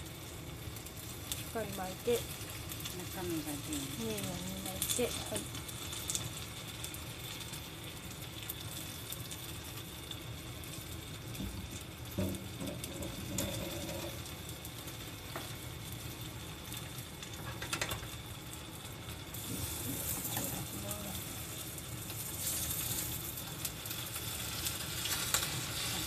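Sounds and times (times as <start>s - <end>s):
oil sizzling in frying pan: 0.0s - 26.0s.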